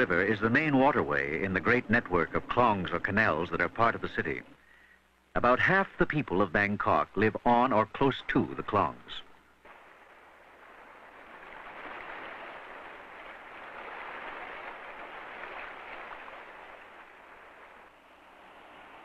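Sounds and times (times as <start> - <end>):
rushing water: 0.0 - 4.8, 5.4 - 19.0.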